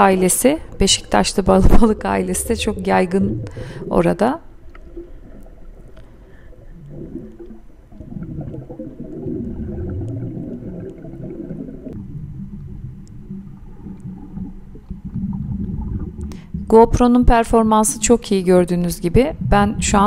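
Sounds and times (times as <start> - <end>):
underwater rumble and gurgling: 0.0 - 17.7, 19.0 - 20.0.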